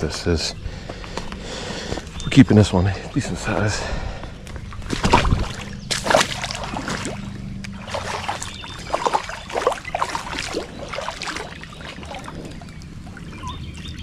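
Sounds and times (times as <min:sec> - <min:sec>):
low steady hum: 0:00.0 - 0:14.0
water splashing and sloshing: 0:00.7 - 0:14.0.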